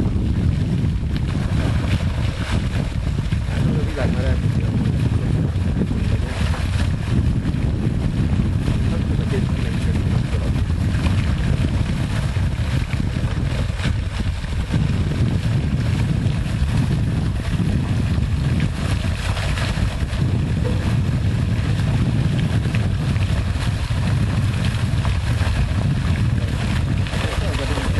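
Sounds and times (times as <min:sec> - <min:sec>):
low rumble: 0:00.0 - 0:27.9
water gushing and splashing: 0:00.0 - 0:27.9.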